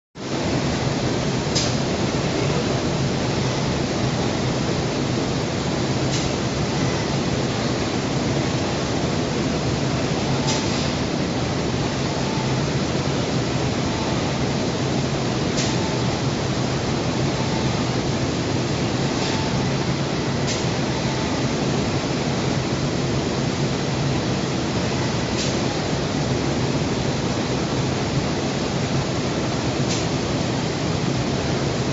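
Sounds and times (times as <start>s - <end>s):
machine hum: 0.3s - 29.8s.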